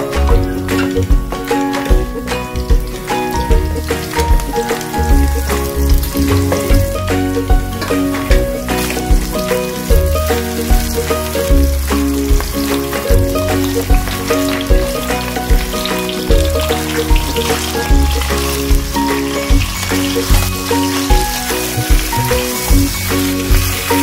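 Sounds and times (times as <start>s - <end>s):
background music with steady beat: 0.0s - 24.0s
fish frying in hot oil: 0.3s - 24.0s.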